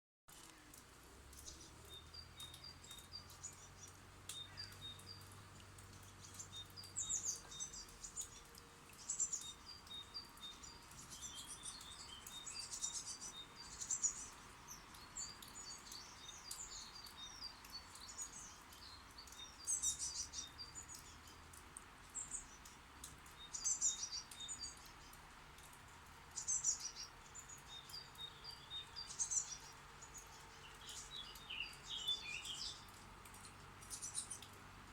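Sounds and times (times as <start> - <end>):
songbirds chirping: 0.3 - 34.9.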